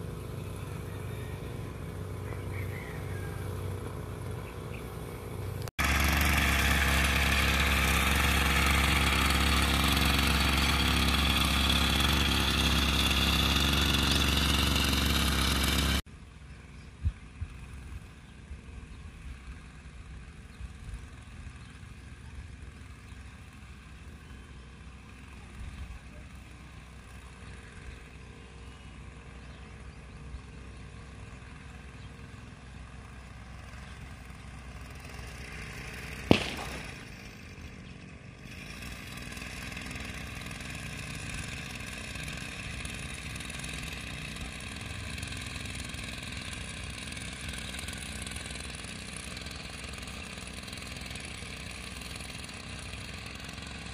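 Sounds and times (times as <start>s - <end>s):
distant small engine running: 0.0s - 53.9s.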